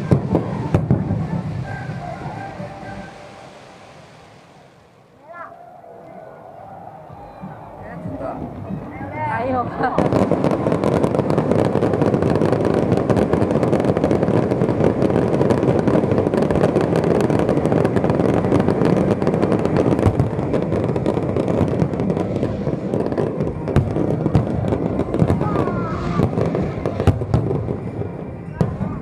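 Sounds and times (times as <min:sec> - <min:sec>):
fireworks barrage rumble: 0:00.0 - 0:29.0
fireworks crackling: 0:00.0 - 0:29.0.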